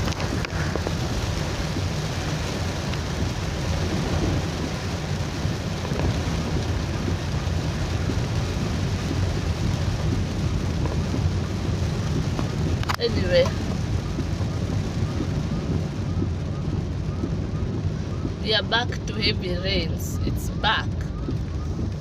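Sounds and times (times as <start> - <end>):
car rumbling on the road: 0.0 - 22.0
heavy rain on a car: 0.0 - 22.0.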